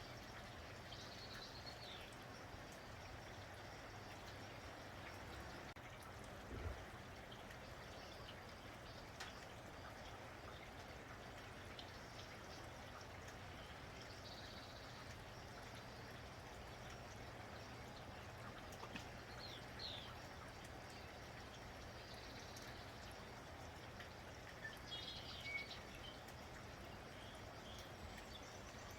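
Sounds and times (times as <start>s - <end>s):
faint drips: 0.0s - 28.9s
steady rain falling: 0.0s - 28.9s.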